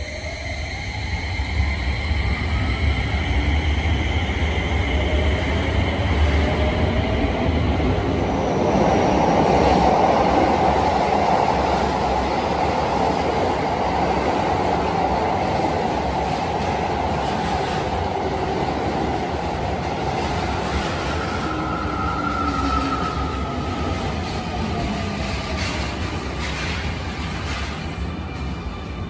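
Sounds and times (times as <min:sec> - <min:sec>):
train wheels rushing: 0:01.7 - 0:29.0.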